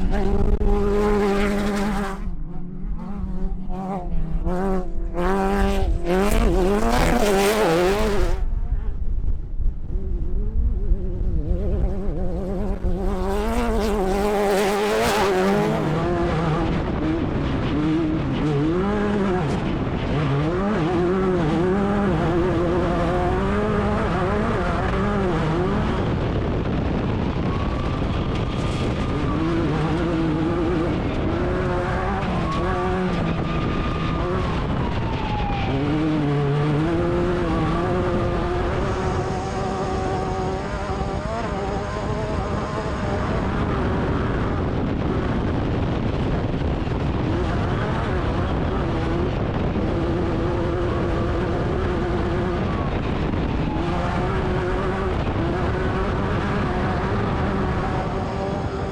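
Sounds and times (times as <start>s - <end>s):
buggy engine revving hard: 0.0s - 8.4s, 11.0s - 27.4s, 28.4s - 34.6s, 35.7s - 58.9s.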